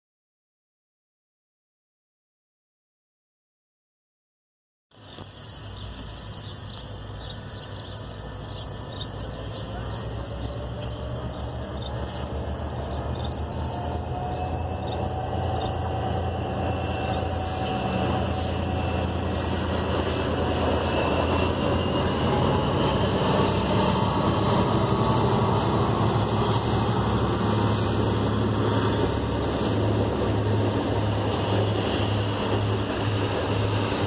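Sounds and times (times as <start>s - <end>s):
train running past: 5.0s - 34.0s.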